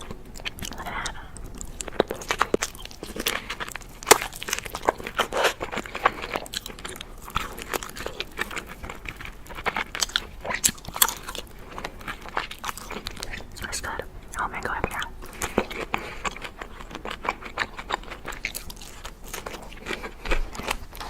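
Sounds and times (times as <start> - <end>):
crunching and chewing food: 0.0 - 21.0.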